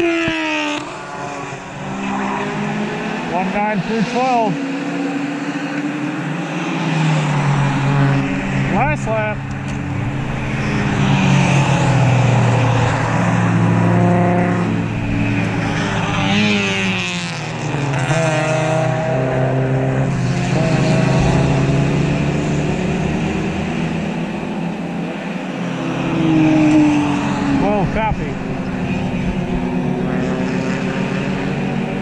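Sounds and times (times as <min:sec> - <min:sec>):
race cars passing at high revs: 0:00.0 - 0:32.0.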